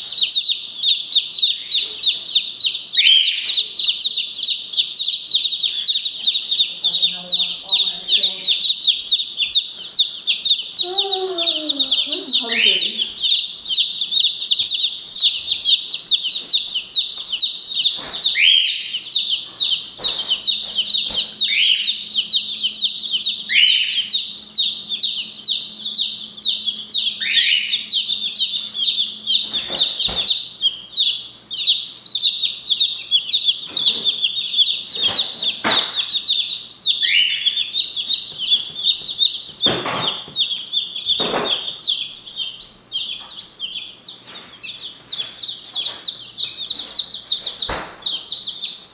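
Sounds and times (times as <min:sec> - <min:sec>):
chicks cheeping: 0:00.0 - 0:48.9.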